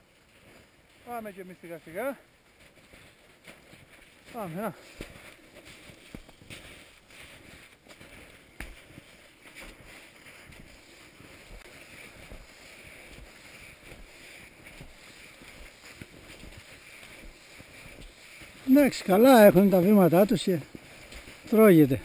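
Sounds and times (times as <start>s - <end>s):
footsteps crunching in deep snow: 0.0s - 22.0s.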